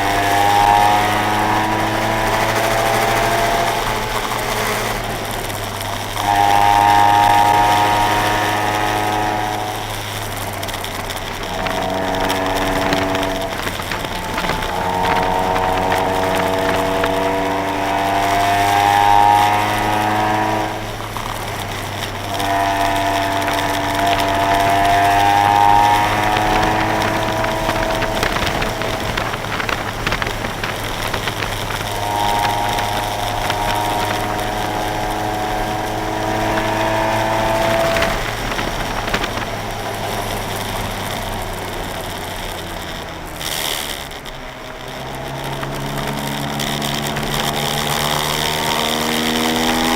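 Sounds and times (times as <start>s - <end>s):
car engine accelerating: 0.0s - 49.9s
road noise: 0.0s - 49.9s.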